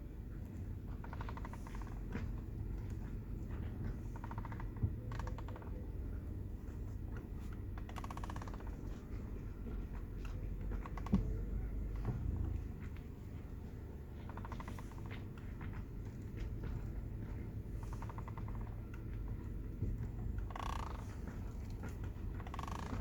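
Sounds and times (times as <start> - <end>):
steering wheel clicking: 1.0 - 23.0.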